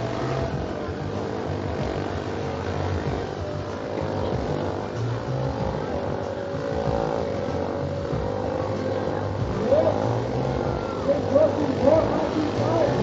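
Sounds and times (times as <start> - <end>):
motorcycle engines at high revs: 0.0 - 13.0.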